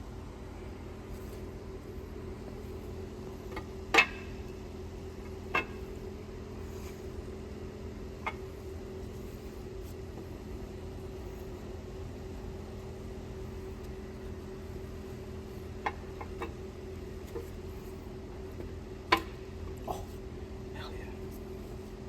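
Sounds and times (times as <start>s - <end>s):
mechanical hum of equipment: 0.0s - 22.0s.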